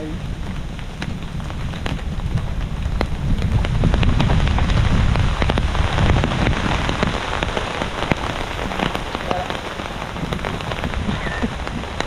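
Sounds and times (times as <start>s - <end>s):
low wind rumble: 0.0s - 12.0s
rain drops ticking: 0.0s - 12.0s
rain hiss: 0.0s - 12.0s.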